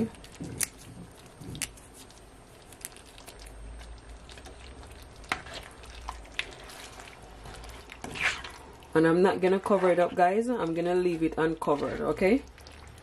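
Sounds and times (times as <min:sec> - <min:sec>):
sauce popping: 0:00.0 - 0:09.6, 0:10.6 - 0:13.0
sauce bubbling in a skillet: 0:01.0 - 0:13.0.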